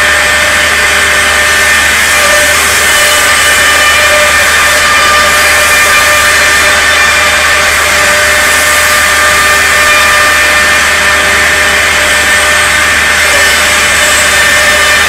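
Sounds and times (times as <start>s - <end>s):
cnc machine spindle whine: 0.0s - 15.0s.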